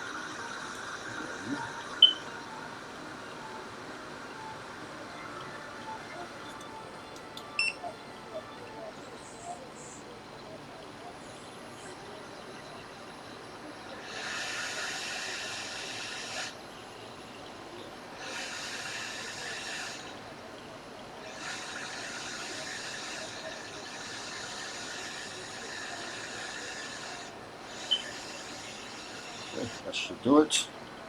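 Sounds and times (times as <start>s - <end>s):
hot air station hissing: 0.0s - 31.0s.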